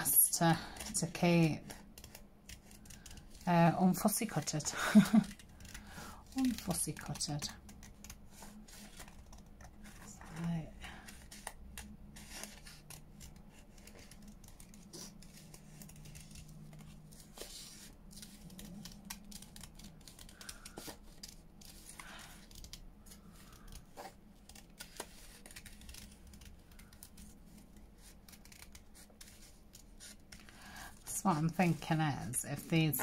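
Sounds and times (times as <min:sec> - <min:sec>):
scissors snipping paper: 0:00.6 - 0:32.0.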